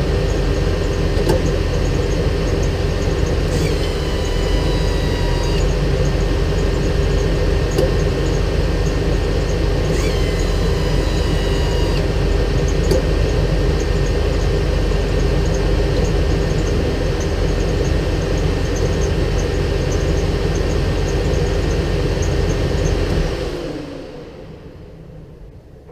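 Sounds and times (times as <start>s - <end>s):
machine rumbling and whining: 0.0s - 25.9s.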